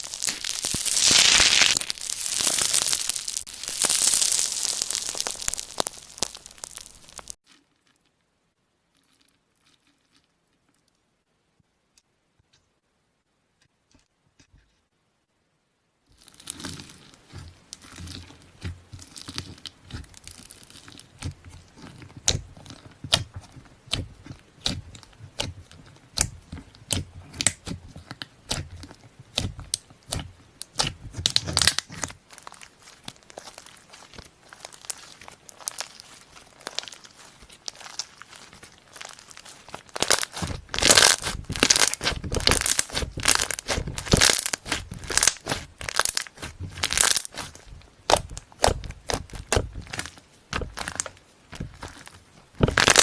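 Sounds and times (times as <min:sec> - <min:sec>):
slime crackling and popping: 0:00.0 - 0:07.4, 0:16.2 - 0:53.0.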